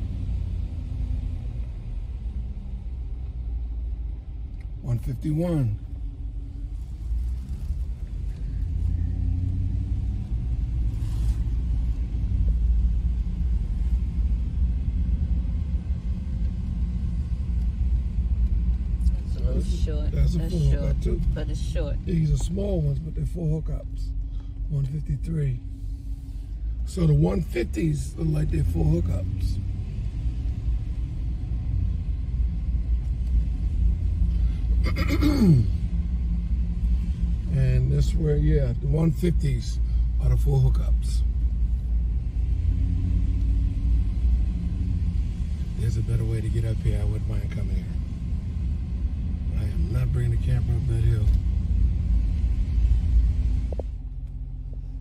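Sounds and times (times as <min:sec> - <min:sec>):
vehicle engine and road rumble: 0:00.0 - 0:55.0.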